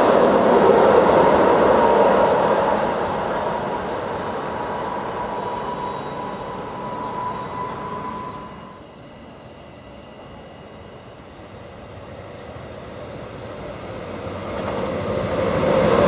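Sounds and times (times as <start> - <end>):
high-pitched whine: 0.0 - 16.0
train rumbling: 0.0 - 16.0.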